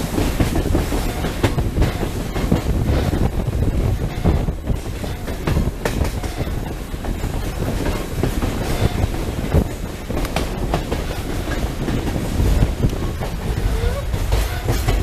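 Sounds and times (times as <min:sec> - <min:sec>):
train rumble: 0:00.0 - 0:15.0
train wheels clicking on rails: 0:00.0 - 0:15.0.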